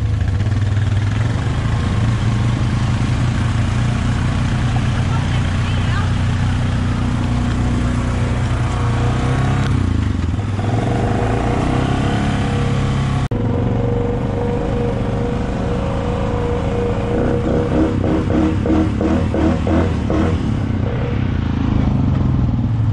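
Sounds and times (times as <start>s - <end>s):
atv engine running: 0.0s - 22.9s.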